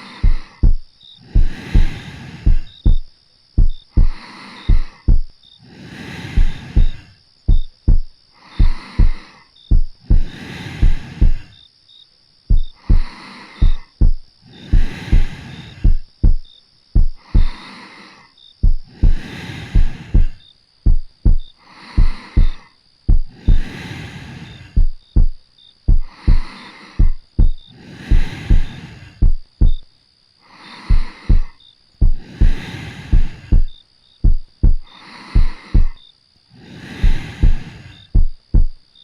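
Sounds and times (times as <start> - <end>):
heartbeat: 0.0 - 5.4, 6.3 - 11.6, 12.5 - 17.6, 18.6 - 23.8, 24.7 - 29.9, 30.9 - 36.0, 37.0 - 38.8
soft slow breathing: 0.0 - 11.7, 12.5 - 39.0.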